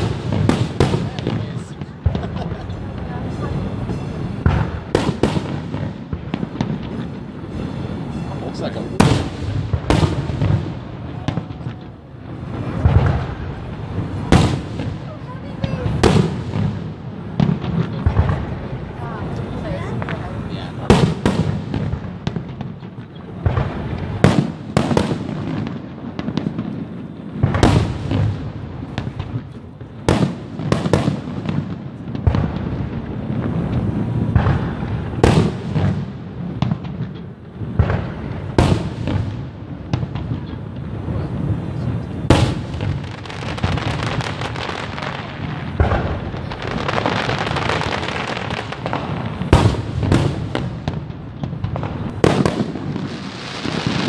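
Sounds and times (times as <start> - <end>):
dense firework crackling: 0.0 - 54.0.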